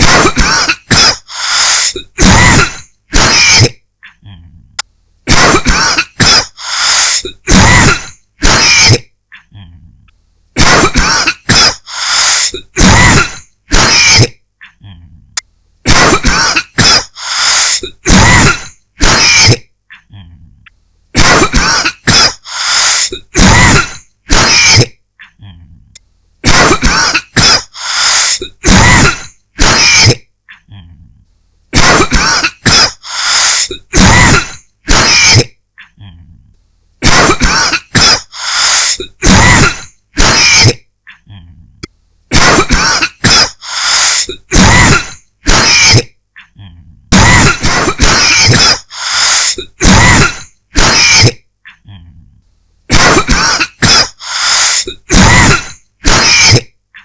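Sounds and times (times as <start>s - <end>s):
person coughing: 0.0s - 4.5s, 5.3s - 9.7s, 10.6s - 15.0s, 15.9s - 20.0s, 21.2s - 25.0s, 26.4s - 30.8s, 31.8s - 36.2s, 37.0s - 40.8s, 42.3s - 51.9s, 52.9s - 57.0s.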